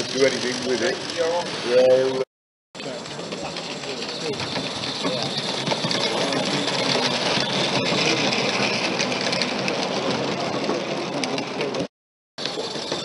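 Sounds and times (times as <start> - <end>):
model train whirring rattle: 0.0 - 2.2, 2.8 - 13.0
wheels clicking over rails: 0.0 - 2.2, 2.8 - 13.0.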